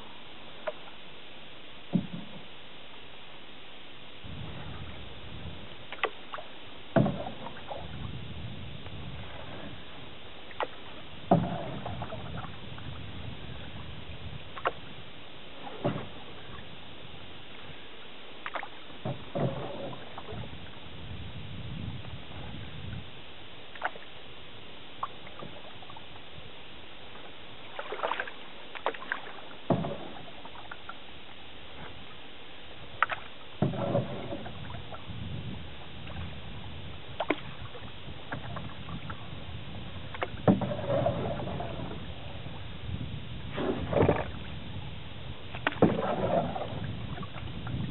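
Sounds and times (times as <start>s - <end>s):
paddle splashes and drips: 0.0s - 1.0s, 4.2s - 21.2s, 23.7s - 24.2s, 24.9s - 26.4s, 27.0s - 47.9s.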